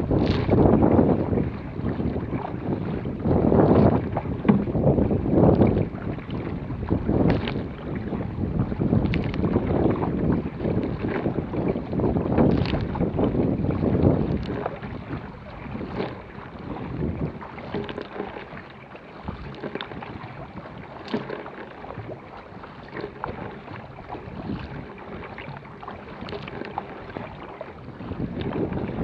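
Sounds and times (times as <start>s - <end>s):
paddle splashes: 0.0s - 29.0s
water rushing along kayak hull: 0.0s - 29.0s
wind buffeting microphone: 0.0s - 29.0s.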